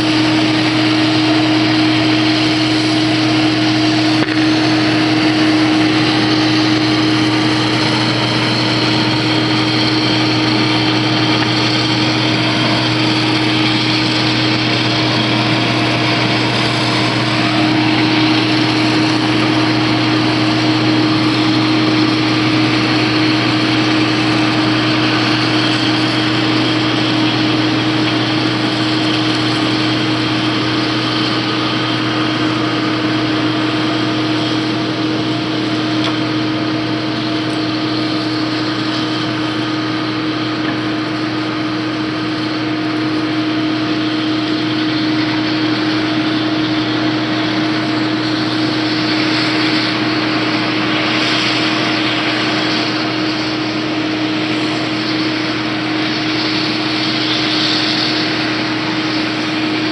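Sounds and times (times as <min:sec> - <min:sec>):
combine harvester humming: 0:00.0 - 0:59.9.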